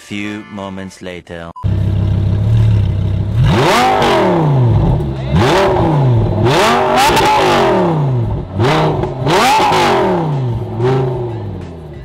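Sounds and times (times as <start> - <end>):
sports car engine revving: 1.7 - 11.9.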